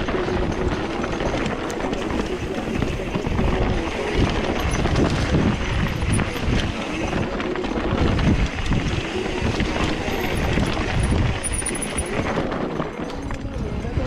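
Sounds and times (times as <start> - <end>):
bike rattling over bumps: 0.0 - 14.0
bike tyres crunching over dirt: 0.0 - 14.0
wind buffeting microphone: 0.0 - 14.0.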